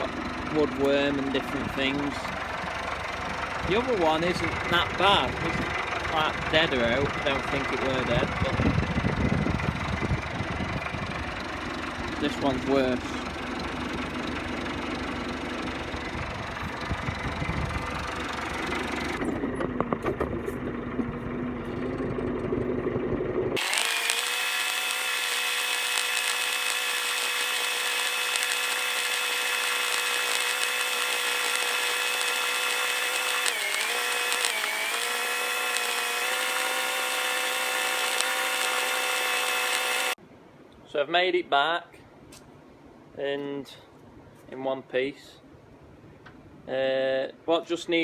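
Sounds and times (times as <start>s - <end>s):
vehicle engine driving: 0.0s - 40.2s.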